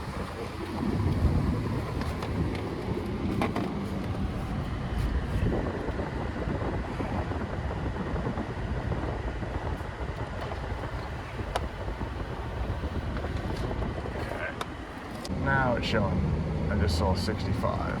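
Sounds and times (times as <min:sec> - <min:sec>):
air conditioning whir: 0:00.0 - 0:18.0
car engine idling: 0:00.0 - 0:18.0.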